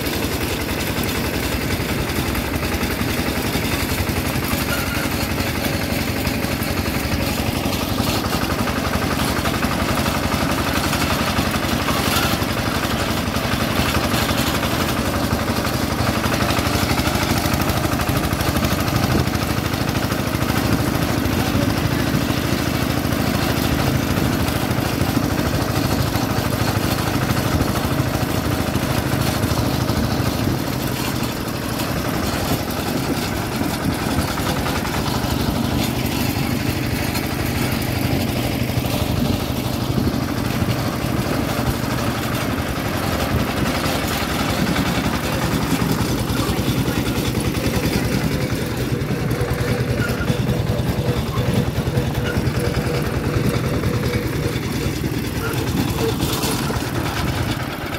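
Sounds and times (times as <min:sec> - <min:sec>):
diesel engine chugging: 0:00.0 - 0:57.9.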